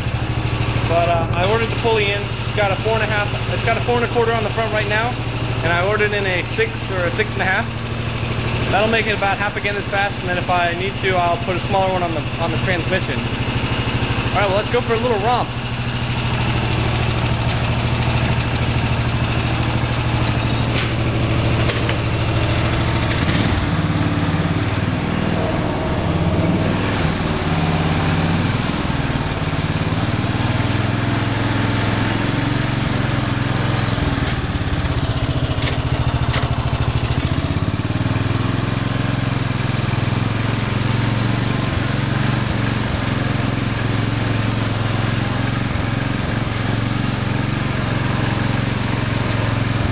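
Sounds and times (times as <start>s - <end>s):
riding mower engine running: 0.0s - 49.9s.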